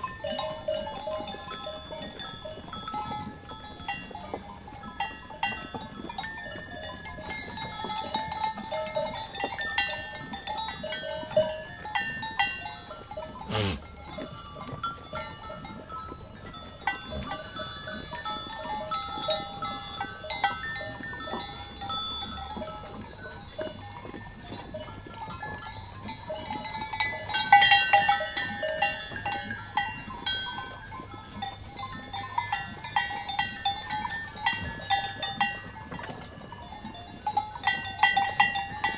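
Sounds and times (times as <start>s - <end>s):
livestock bells clinking: 0.0s - 38.9s.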